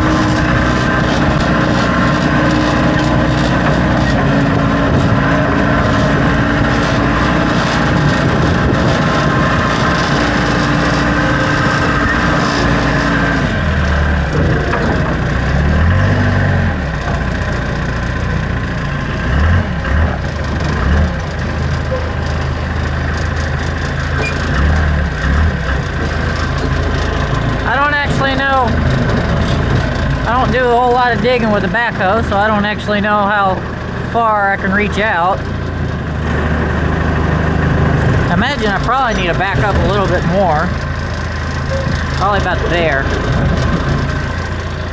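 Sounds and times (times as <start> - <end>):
backhoe engine running: 0.0 - 44.9.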